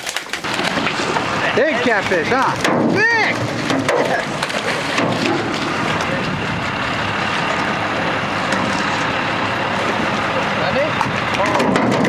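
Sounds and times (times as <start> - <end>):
water gushing down metal chute: 0.0 - 12.0.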